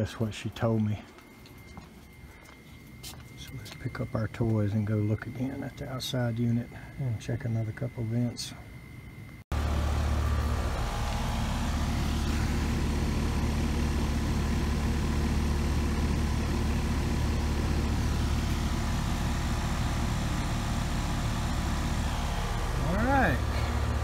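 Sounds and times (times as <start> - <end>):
heat pump humming: 0.0 - 24.0.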